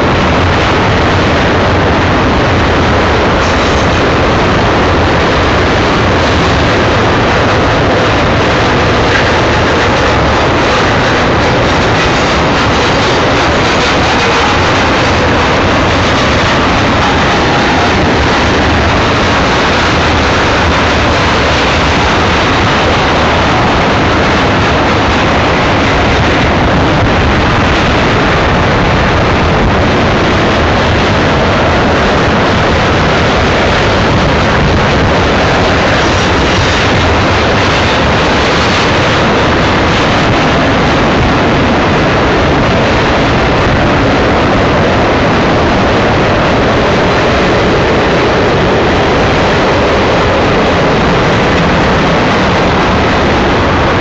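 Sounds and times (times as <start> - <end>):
train wheels rushing on rail: 0.0 - 54.0.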